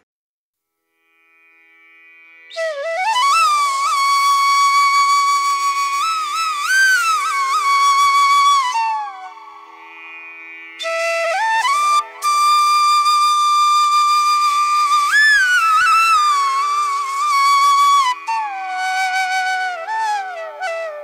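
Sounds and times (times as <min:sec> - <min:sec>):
flute slow melody: 0:02.5 - 0:09.8, 0:10.8 - 0:21.0.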